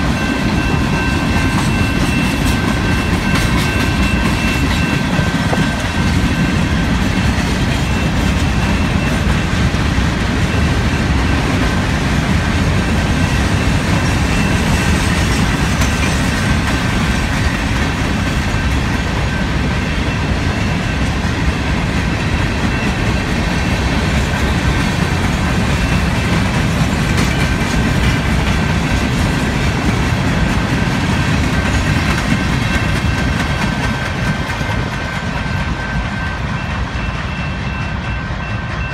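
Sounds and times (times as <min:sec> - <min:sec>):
train wheels clattering on rail: 0:00.0 - 0:38.9.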